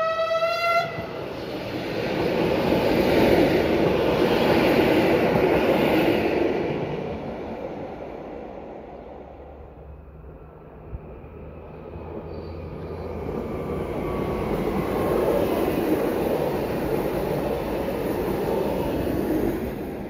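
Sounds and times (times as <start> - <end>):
electric train running by: 0.0 - 20.0.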